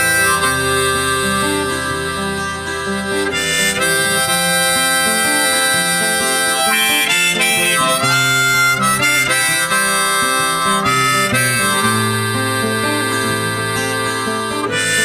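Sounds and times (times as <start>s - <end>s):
acoustic guitar accompaniment: 0.0s - 15.0s
harmonica melody: 0.0s - 15.0s.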